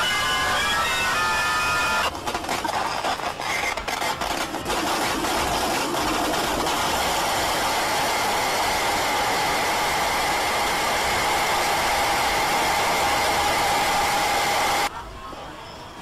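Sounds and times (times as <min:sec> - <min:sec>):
loud static noise: 0:00.0 - 0:16.0.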